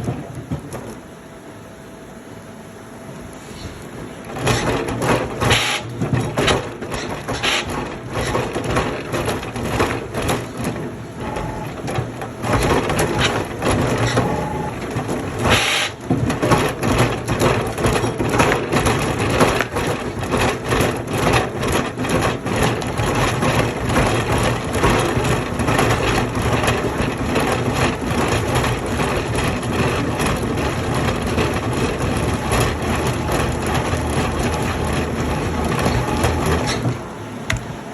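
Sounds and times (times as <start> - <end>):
machine motor hum: 0.0 - 37.9.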